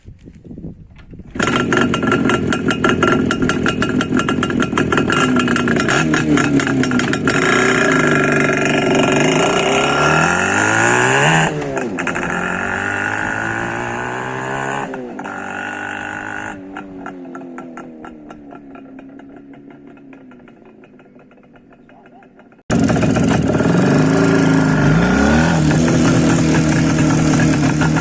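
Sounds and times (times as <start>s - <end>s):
motorcycle engine accelerating: 1.1s - 28.0s.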